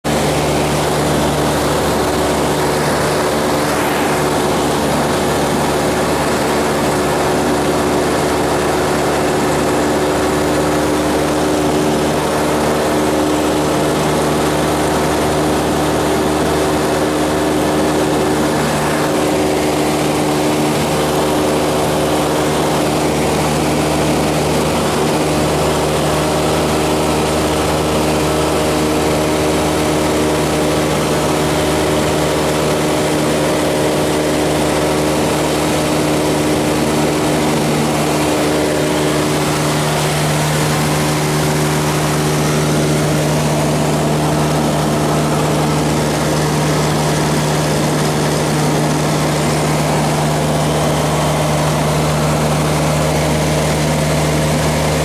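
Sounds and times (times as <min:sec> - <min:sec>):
piston aircraft engine and propeller: 0:00.0 - 0:55.0.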